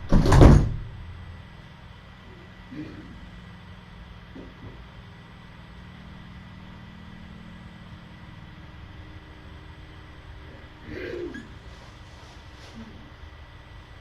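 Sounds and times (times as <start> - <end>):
low machine hum with hiss: 0.0 - 14.0.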